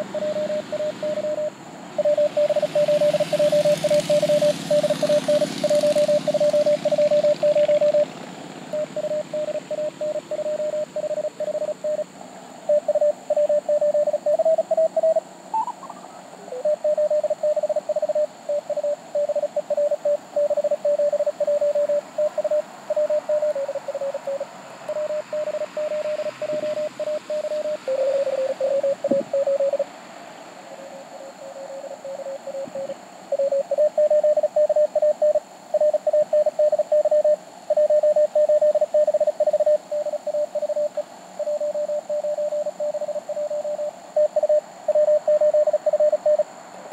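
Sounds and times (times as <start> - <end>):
morse code tones: 0.0 - 8.1, 8.7 - 12.1, 12.7 - 15.8, 16.5 - 29.9, 31.4 - 46.5.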